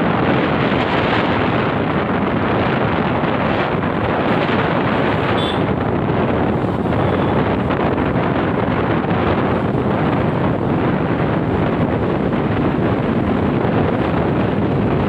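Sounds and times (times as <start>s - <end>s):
motorcycle road noise: 0.0s - 15.0s
wind rushing over microphone: 0.0s - 15.0s.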